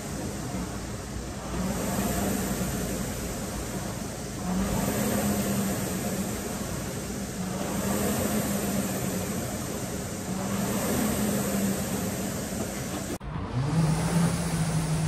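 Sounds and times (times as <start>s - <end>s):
rowing machine flywheel whirring: 0.0s - 15.0s.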